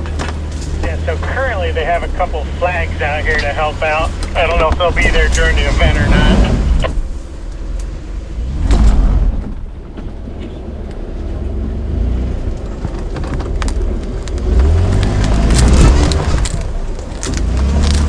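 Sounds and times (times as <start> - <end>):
car engine pulling at low speed: 0.0 - 18.0.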